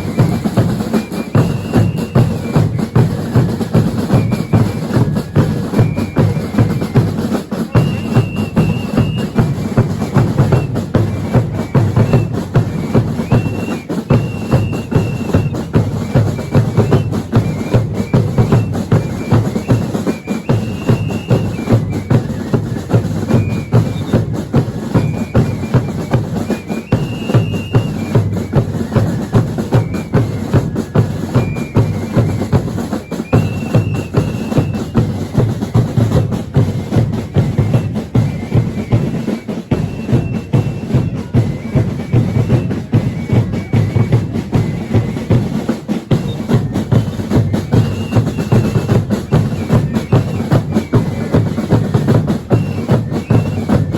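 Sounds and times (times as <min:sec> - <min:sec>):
marching drum band: 0:00.0 - 0:53.9.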